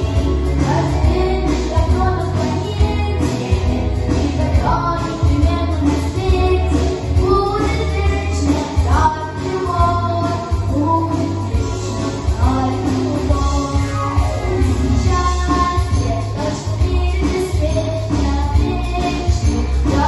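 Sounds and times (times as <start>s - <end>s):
backing track with bass beat: 0.0s - 20.0s
girl singing pop song: 0.0s - 20.0s.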